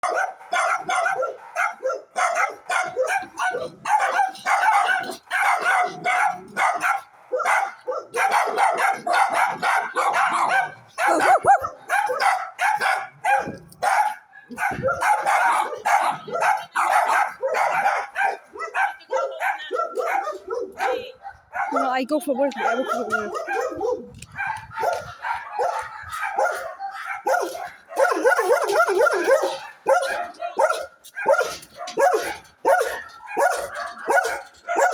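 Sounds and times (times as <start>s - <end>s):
dogs barking: 0.0s - 34.9s.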